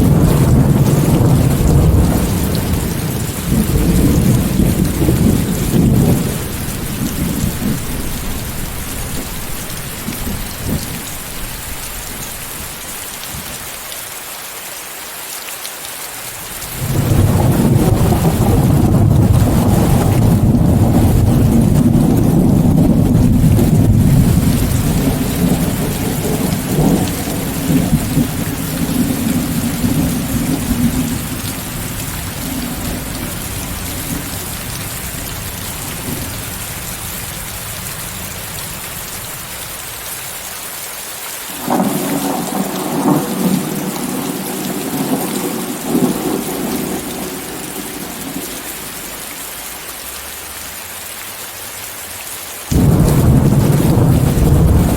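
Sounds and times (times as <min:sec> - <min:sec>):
thunder rumbling: 0:00.0 - 0:13.5, 0:16.7 - 0:39.4, 0:41.5 - 0:49.2, 0:52.7 - 0:54.9
steady rain hiss: 0:00.0 - 0:54.9.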